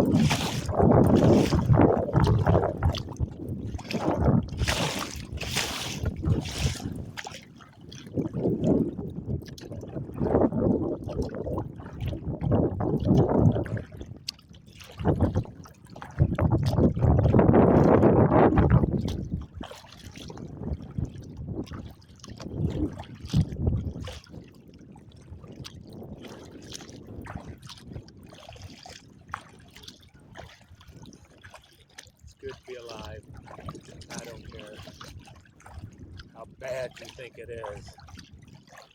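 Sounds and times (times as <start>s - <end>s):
wind gusts on microphone: 0.0s - 7.4s, 8.0s - 14.2s, 15.0s - 19.6s, 20.4s - 24.6s, 25.2s - 28.9s, 32.3s - 38.6s
water sloshing against kayak hull: 0.0s - 38.9s.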